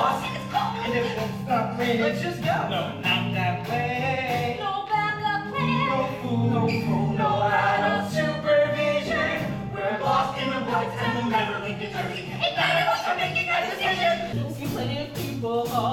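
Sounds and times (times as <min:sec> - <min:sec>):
musical accompaniment: 0:00.0 - 0:15.9
voices singing in harmony: 0:00.0 - 0:15.9.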